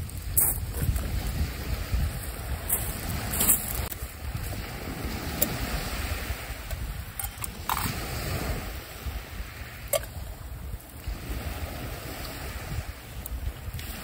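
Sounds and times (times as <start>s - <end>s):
waves washing on shore: 0.0s - 14.0s
wind buffeting microphone: 0.0s - 14.0s.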